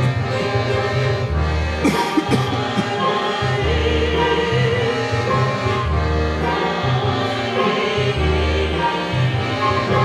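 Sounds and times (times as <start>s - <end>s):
chamber ensemble with strings: 0.0s - 10.0s
opera voices singing: 0.0s - 10.0s.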